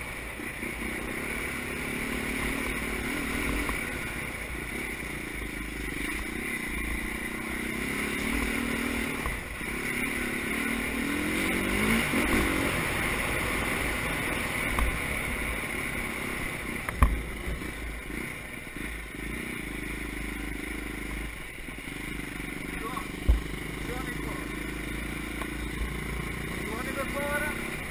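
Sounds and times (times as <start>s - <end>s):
dirt bike engines revving: 0.0s - 27.9s.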